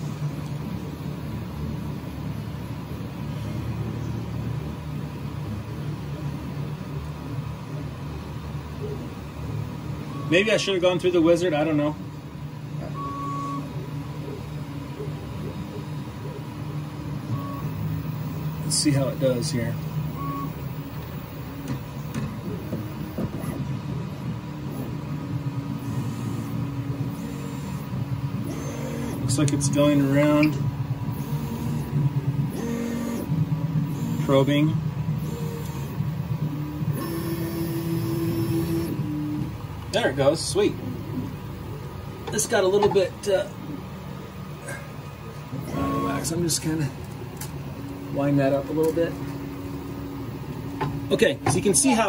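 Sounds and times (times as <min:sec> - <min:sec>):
steady whine: 0:00.0 - 0:52.0
stepper motors humming: 0:00.0 - 0:52.0.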